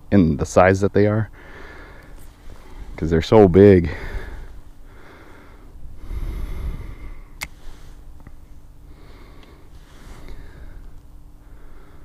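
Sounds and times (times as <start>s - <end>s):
man breathing hard: 1.3s - 3.0s, 3.8s - 12.0s.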